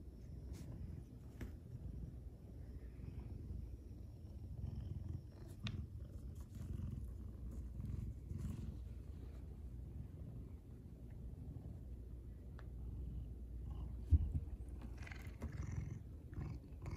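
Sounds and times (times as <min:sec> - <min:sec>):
cat purring: 0:00.1 - 0:16.9.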